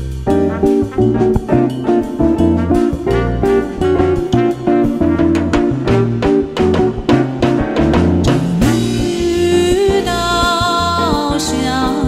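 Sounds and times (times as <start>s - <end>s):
pop band with drums and guitar: 0.0s - 12.0s.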